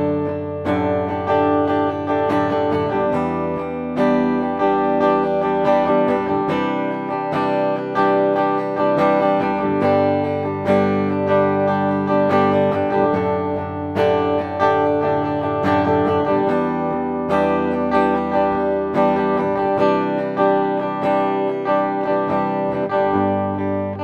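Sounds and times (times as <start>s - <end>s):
clean electric guitar chords: 0.0s - 24.0s.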